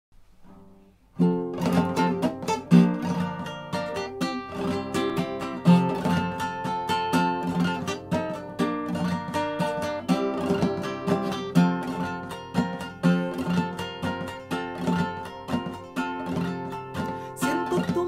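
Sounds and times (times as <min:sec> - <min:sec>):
classical guitar plucked chords: 0:00.2 - 0:18.0.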